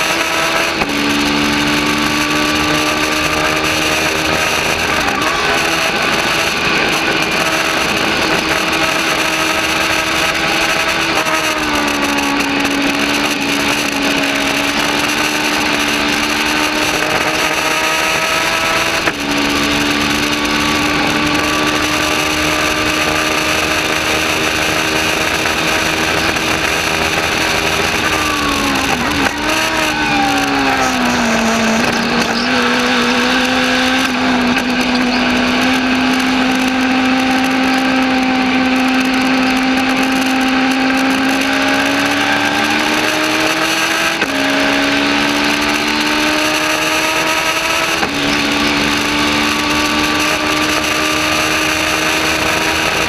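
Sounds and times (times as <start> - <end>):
race car engine at high revs: 0.0 - 53.0
wind and road noise: 0.0 - 53.0.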